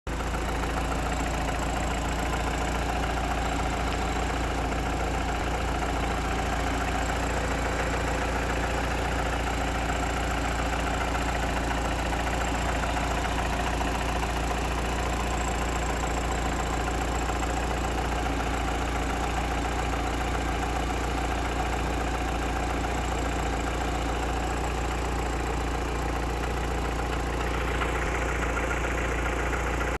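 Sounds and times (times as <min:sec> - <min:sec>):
car engine idling: 0:00.1 - 0:30.0.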